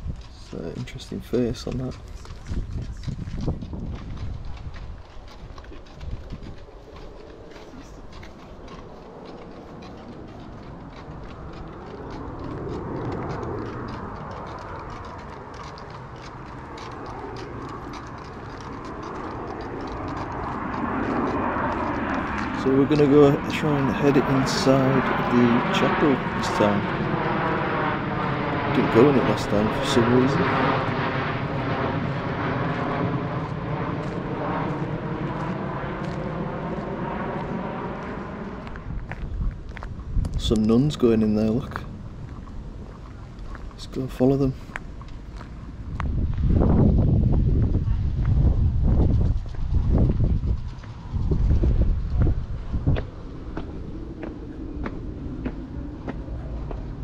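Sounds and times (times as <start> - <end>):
footsteps on a path: 0.0 - 57.0
low rumble of vehicles: 0.0 - 57.0.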